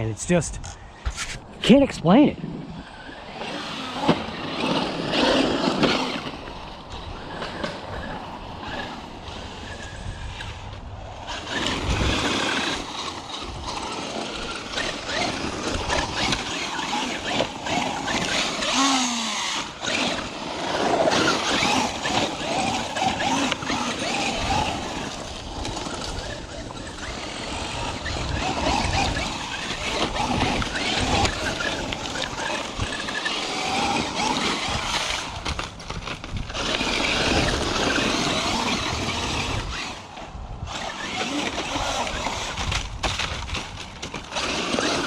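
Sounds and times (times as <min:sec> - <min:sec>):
electric motor surging: 0:02.4 - 0:43.6
tyres scrabbling on dirt: 0:02.8 - 0:45.0.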